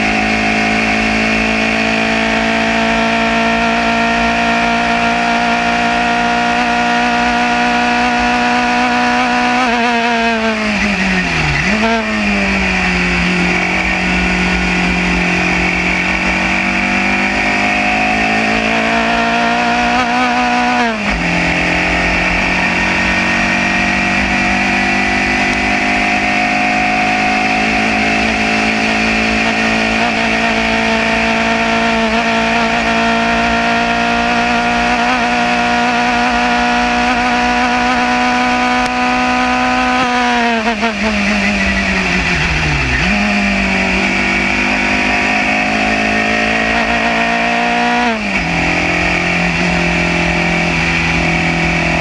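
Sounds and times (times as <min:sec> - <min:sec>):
race car engine at full throttle: 0:00.0 - 0:52.0.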